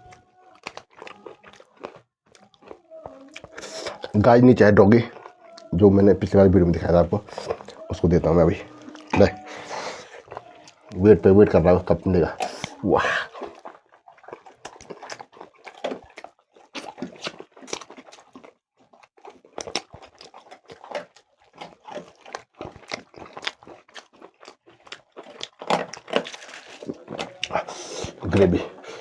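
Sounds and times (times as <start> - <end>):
chewing and crunching food: 0.0 - 29.0.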